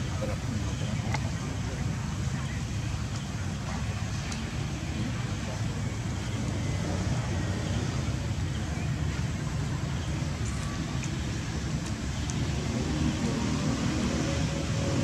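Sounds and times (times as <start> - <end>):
low rumble with hiss: 0.0 - 15.0.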